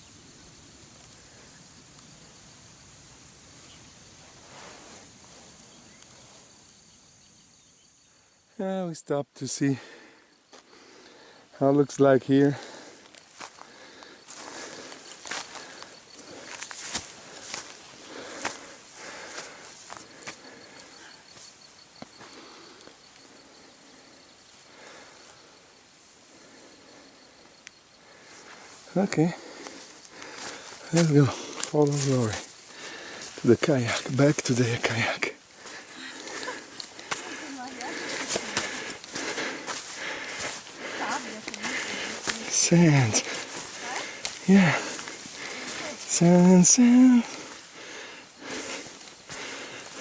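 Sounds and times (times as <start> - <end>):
high insect buzz: 0.0 - 8.6, 12.4 - 50.0.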